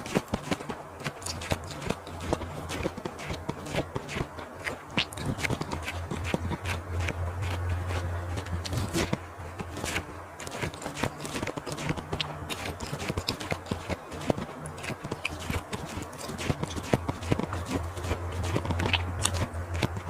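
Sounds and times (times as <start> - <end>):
chewing with crisp crunches: 0.0 - 20.0
low hum: 0.0 - 20.0.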